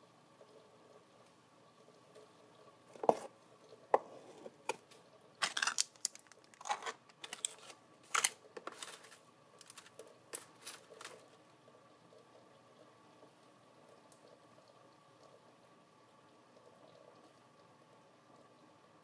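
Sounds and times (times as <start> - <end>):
faint steady background noise: 0.0 - 19.0
crinkly crackling noise: 0.2 - 18.7.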